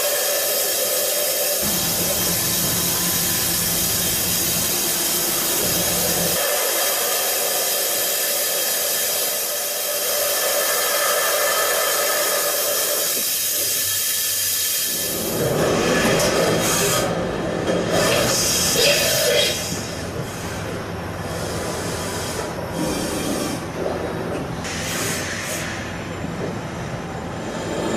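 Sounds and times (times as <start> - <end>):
machine hissing: 0.0 - 17.2, 17.9 - 23.7, 24.6 - 26.1.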